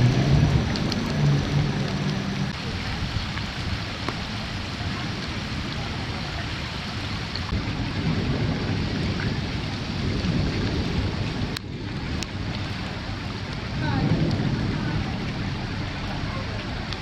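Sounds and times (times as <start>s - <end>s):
low rumble: 0.0s - 17.0s
torrential rain pouring: 0.0s - 17.0s.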